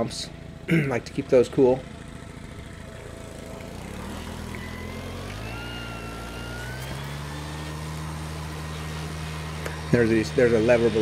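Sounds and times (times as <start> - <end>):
leaf blower running: 0.0 - 11.0.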